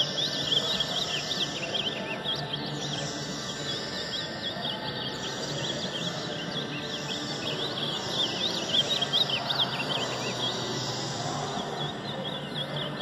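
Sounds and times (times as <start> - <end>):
birds singing warbling phrases: 0.0 - 13.0.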